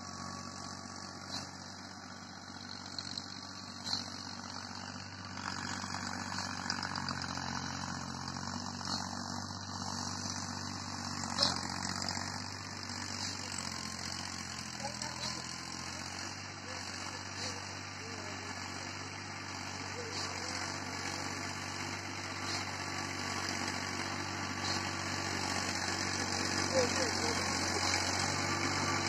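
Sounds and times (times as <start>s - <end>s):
distant tiller engine humming: 0.0s - 29.0s.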